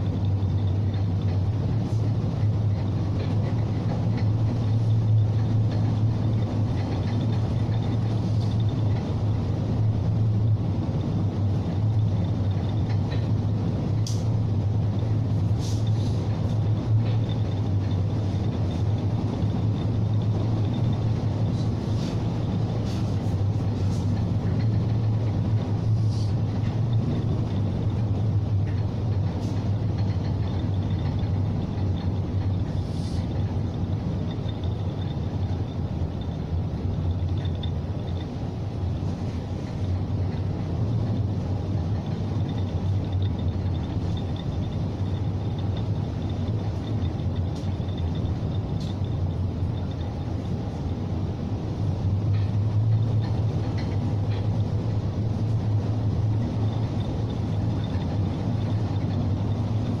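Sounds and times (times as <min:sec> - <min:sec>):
ship engine hum: 0:00.0 - 1:00.0
wind and sea noise: 0:00.0 - 1:00.0.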